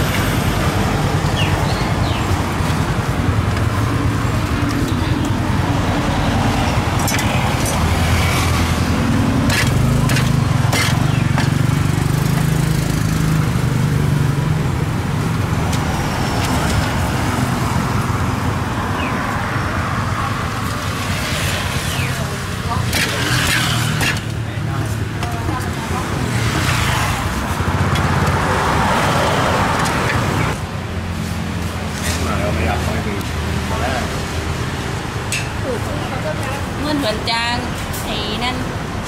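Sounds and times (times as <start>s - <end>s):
vehicle engine running close: 0.0s - 36.8s
street traffic: 0.0s - 39.0s.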